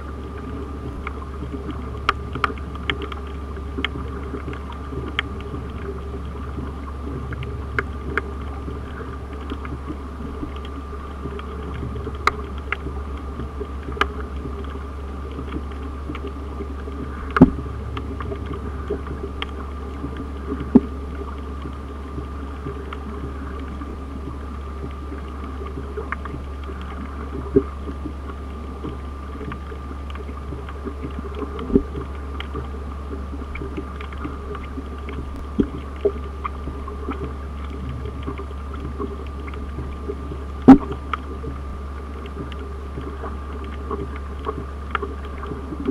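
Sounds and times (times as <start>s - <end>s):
thin steady tone: 0.0s - 45.9s
underwater low hum: 0.0s - 45.9s
sharp underwater clicks and pops: 0.3s - 45.9s.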